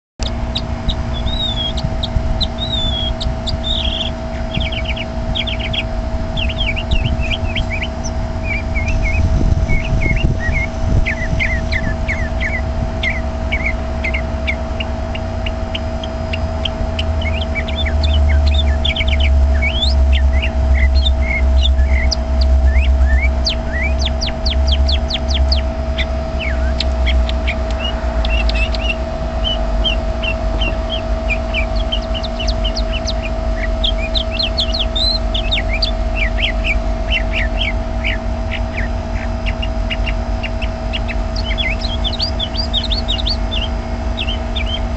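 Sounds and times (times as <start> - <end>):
faint steady hum: 0.2 - 44.9
low rumble: 0.2 - 44.9
songbird chirping: 0.2 - 44.9.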